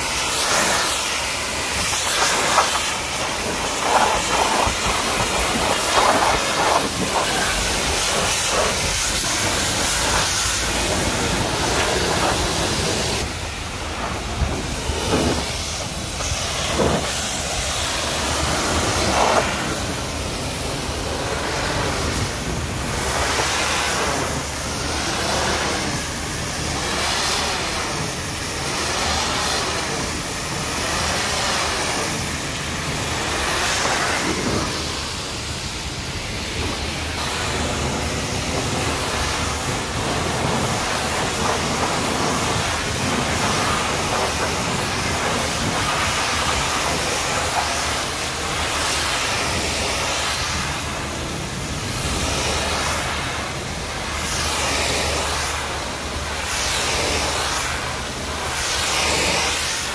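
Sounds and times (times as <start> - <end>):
pressure washer spraying tarpaulin: 0.0 - 59.9.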